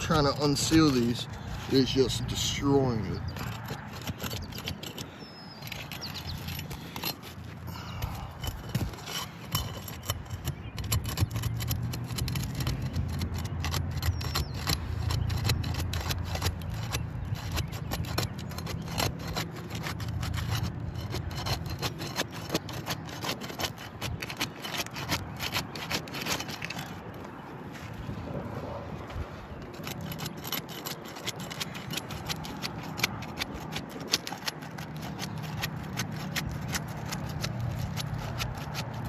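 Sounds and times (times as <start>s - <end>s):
shingles scraping: 0.0s - 39.0s.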